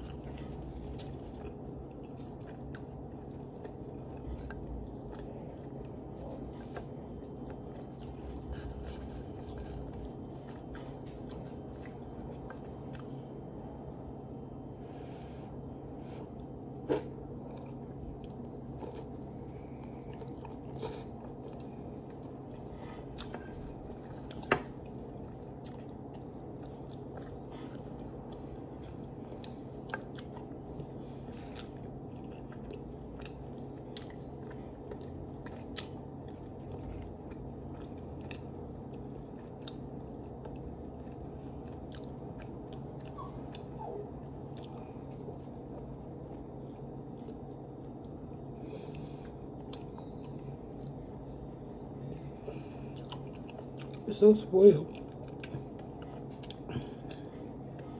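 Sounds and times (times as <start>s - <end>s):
person chewing: 0.0s - 13.3s, 16.0s - 54.1s, 54.9s - 57.9s.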